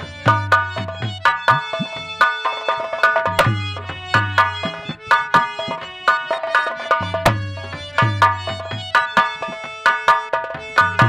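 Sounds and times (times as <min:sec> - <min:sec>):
kettle drum beaten with sticks: 0:00.0 - 0:11.0.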